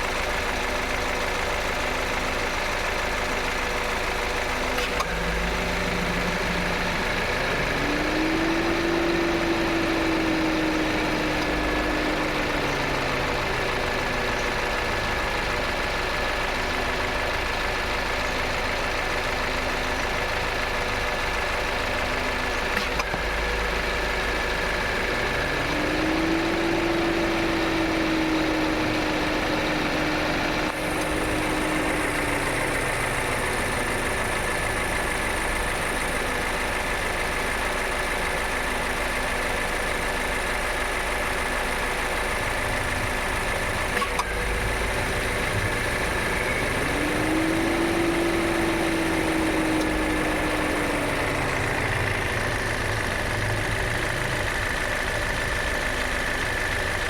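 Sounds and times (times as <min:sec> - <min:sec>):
car engine mechanical hum: 0:00.0 - 0:57.0.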